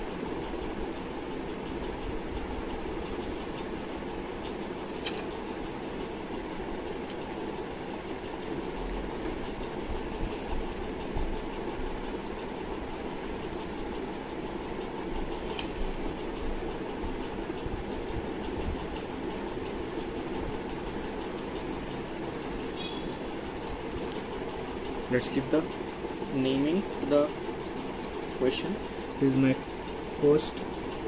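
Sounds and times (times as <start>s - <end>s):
motor hum: 0.0s - 31.0s.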